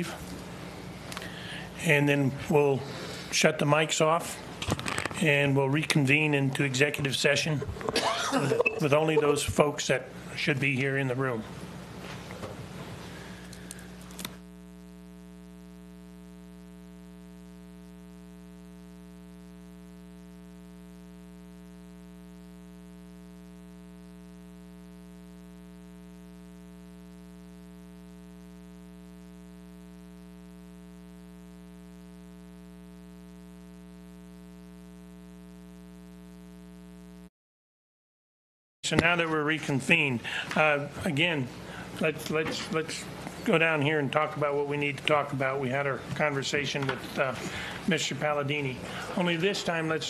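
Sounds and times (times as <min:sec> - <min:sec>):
electrical hum: 0:00.0 - 0:37.3, 0:38.8 - 0:50.0.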